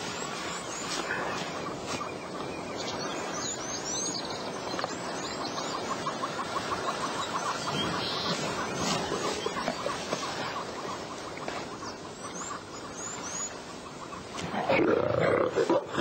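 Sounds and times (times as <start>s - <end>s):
birds chirping: 0.0s - 16.0s
sweeping bird calls: 0.0s - 16.0s.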